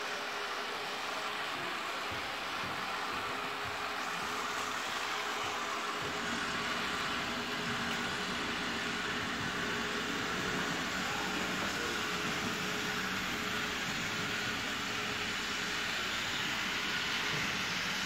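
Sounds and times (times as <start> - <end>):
model train motor whirring: 2.3 - 18.0.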